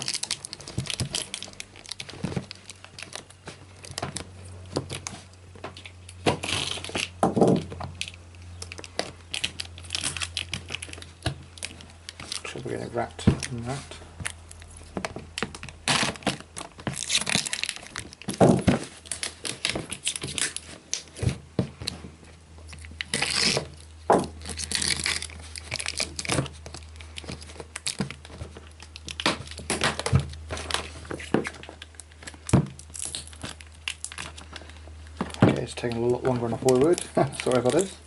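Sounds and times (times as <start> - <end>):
packaging tearing and rustling: 0.0 - 38.0.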